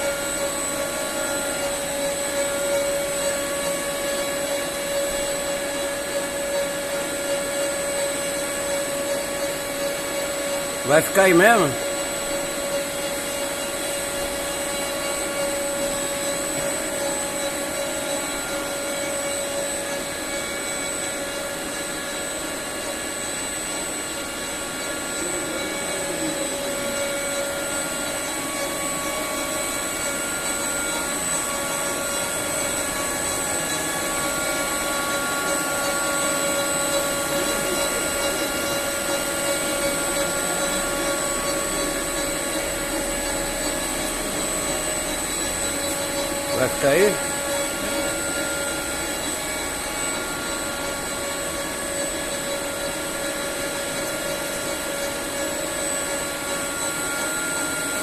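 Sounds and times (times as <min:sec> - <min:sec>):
lathe machine whine: 0:00.0 - 0:58.0
mechanical hum: 0:00.0 - 0:58.0.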